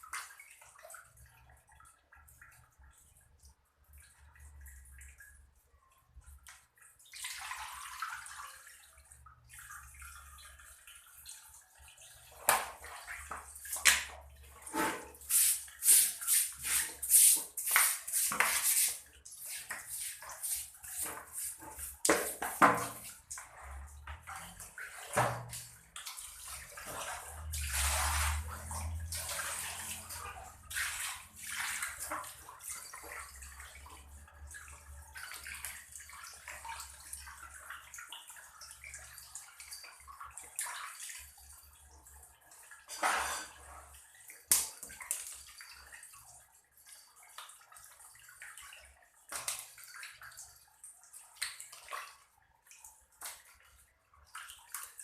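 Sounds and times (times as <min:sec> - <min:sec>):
water sloshing in a basin: 0:00.0 - 0:55.0.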